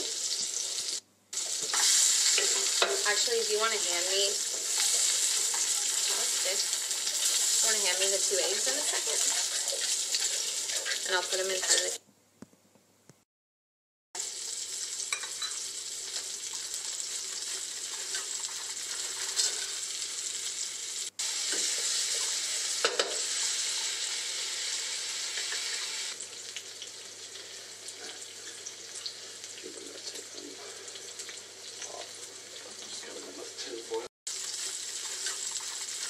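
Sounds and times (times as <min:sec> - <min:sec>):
fish cakes frying in oil: 0:00.0 - 0:12.0, 0:14.2 - 0:36.0.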